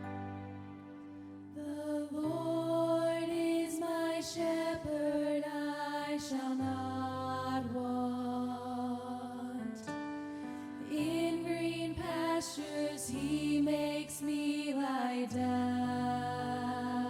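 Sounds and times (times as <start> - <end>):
vocal ensemble singing in harmony: 1.5 - 17.0.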